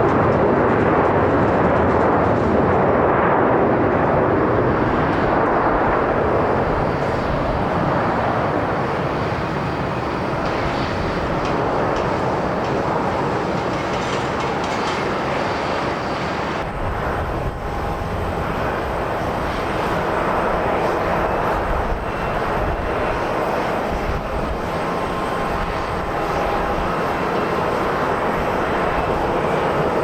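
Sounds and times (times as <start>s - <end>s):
jet engines running: 0.0s - 30.0s
wind rumbling on microphone: 0.0s - 30.0s.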